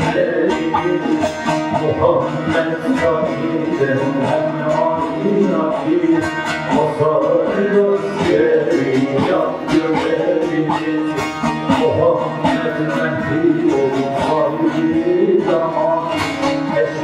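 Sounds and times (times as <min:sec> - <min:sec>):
plucked lutes playing melody: 0:00.0 - 0:17.0.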